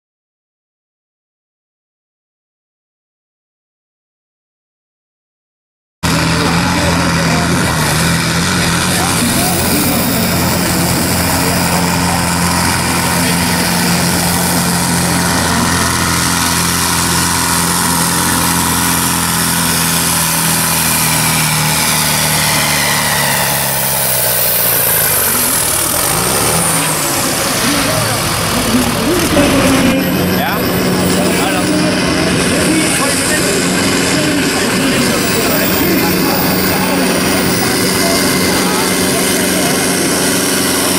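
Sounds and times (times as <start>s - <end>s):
diesel tractor engine revving: 6.0s - 40.9s.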